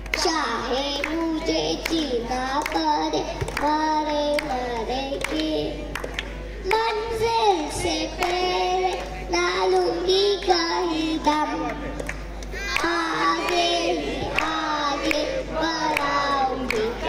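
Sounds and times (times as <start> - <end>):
girl singing into microphone: 0.1 - 5.9, 6.6 - 11.8, 12.6 - 17.0.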